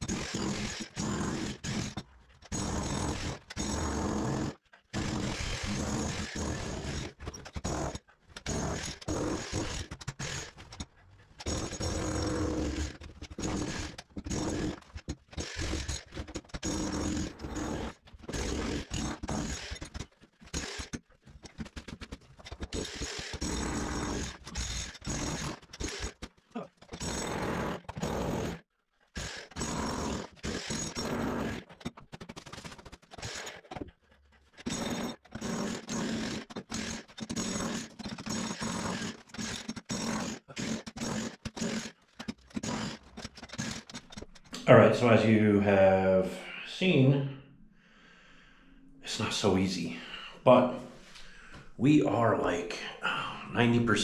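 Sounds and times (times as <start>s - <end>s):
jackhammer chiselling concrete: 0.0s - 44.6s.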